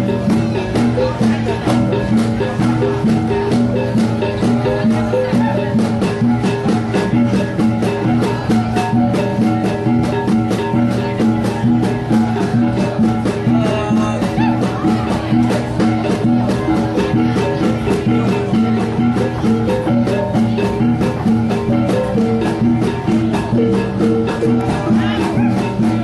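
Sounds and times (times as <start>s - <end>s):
gong ensemble playing: 0.0s - 26.0s.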